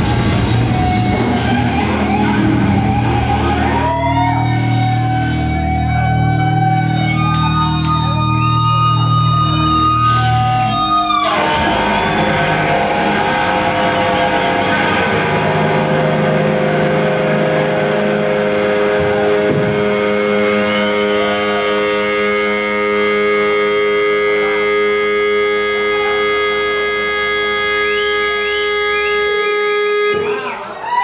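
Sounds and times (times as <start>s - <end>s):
electric guitar held notes: 0.0s - 31.0s.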